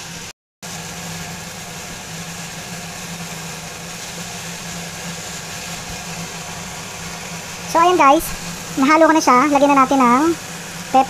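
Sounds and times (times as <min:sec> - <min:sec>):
steady low hum: 0:00.0 - 0:11.0
vegetables sizzling in a pan: 0:00.0 - 0:11.0.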